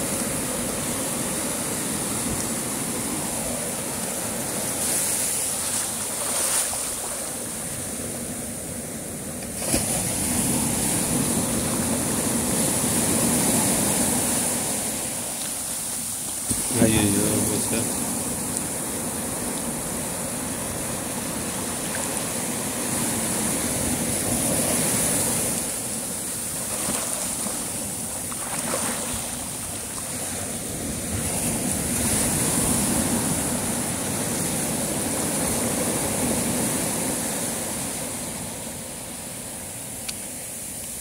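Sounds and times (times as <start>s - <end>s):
surf washing against shore: 0.0s - 41.0s.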